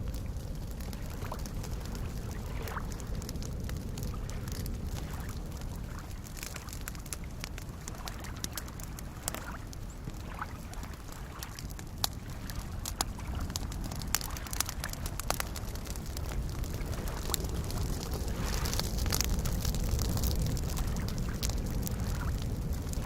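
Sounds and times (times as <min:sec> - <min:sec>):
campfire crackling and popping: 0:00.0 - 0:23.0
lake waves lapping: 0:00.1 - 0:22.8.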